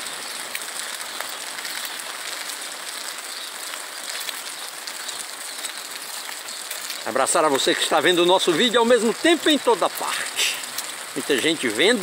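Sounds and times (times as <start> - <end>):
raindrops tapping: 0.0 - 12.0
steady rain hissing: 0.0 - 12.0.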